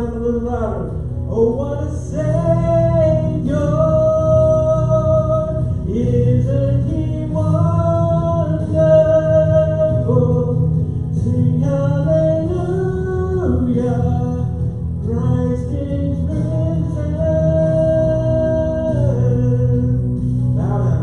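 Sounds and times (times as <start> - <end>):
instrumental accompaniment with bass: 0.0 - 21.0.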